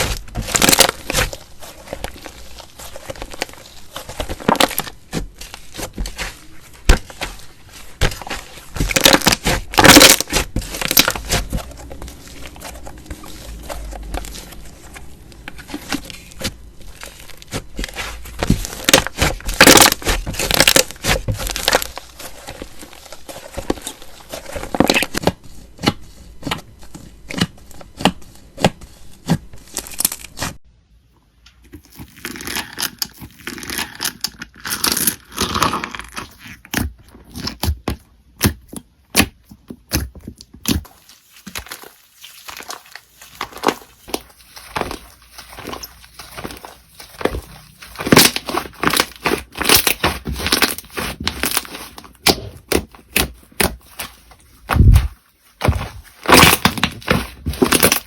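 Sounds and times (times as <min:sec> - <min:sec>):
slime crackling and crunching: 0:00.0 - 0:30.6, 0:31.7 - 0:58.0.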